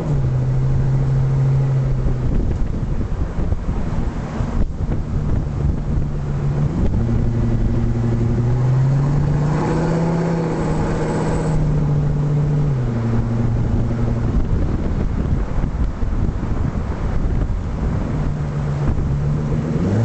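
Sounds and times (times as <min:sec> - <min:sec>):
engine running under load: 0:00.0 - 0:20.0.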